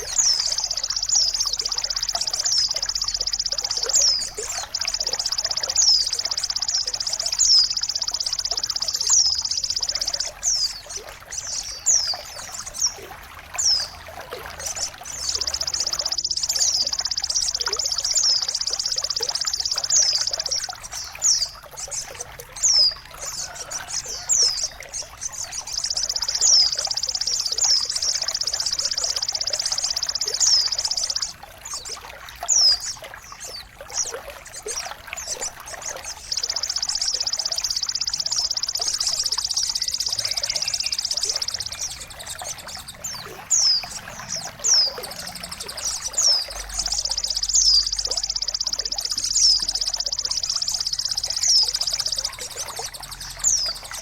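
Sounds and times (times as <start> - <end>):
high bird chirps: 0.0 - 54.0.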